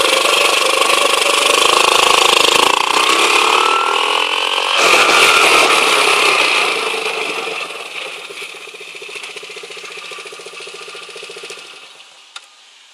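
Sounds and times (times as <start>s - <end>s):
quad bike engine running: 0.0s - 12.2s.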